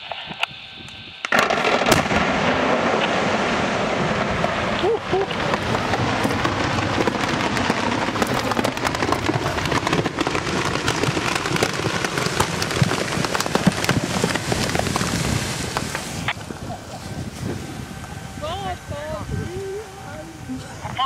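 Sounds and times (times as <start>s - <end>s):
debris raining on trees and ground: 1.3s - 21.0s.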